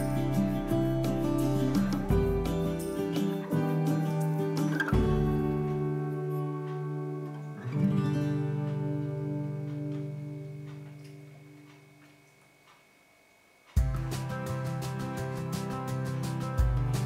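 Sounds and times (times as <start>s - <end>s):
acoustic guitar chord ringing: 0.0s - 12.3s, 13.8s - 17.0s.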